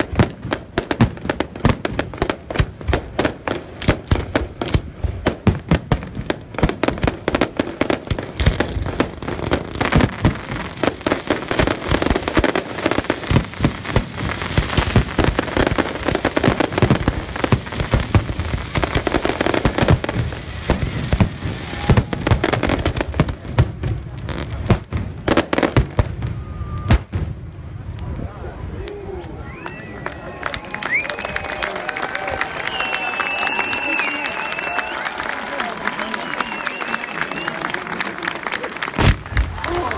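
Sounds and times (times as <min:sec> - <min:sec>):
fireworks bangs: 0:00.0 - 0:28.2, 0:30.5 - 0:39.9
fireworks crackling: 0:00.0 - 0:28.2, 0:29.6 - 0:39.9.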